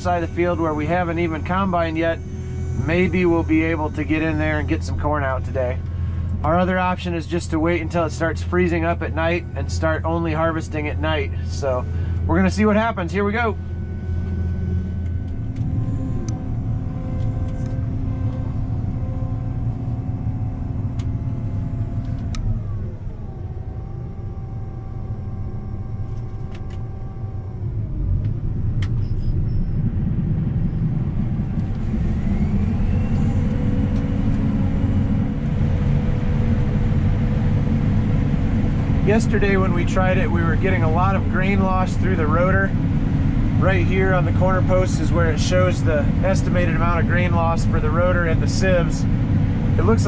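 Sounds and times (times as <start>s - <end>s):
combine harvester drone and whine: 0.0s - 50.0s.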